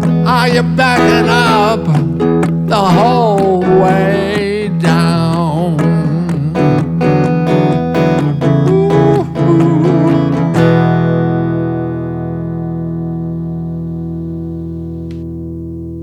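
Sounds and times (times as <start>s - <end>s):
country guitar playing: 0.0s - 16.0s.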